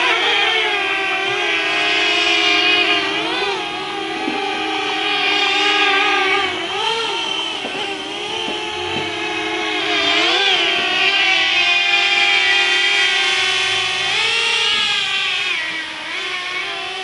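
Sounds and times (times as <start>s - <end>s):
drone propellers buzzing: 0.0s - 17.0s.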